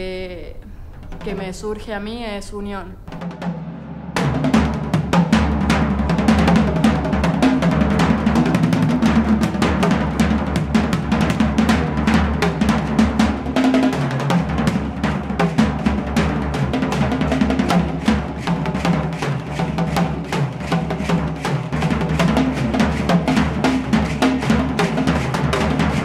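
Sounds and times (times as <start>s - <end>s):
fast drum kit beat: 3.0s - 26.0s.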